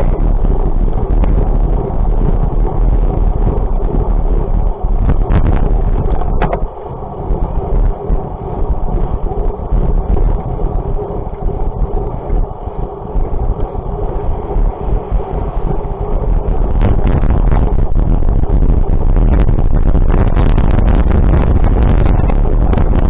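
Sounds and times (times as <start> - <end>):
vehicle rumble: 0.0 - 23.0
wind noise on microphone: 0.0 - 23.0.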